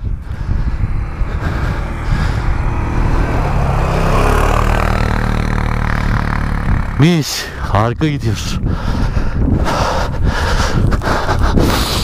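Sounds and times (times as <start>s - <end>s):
quad bike engine running: 0.0s - 12.0s
quad bike passing: 0.0s - 12.0s.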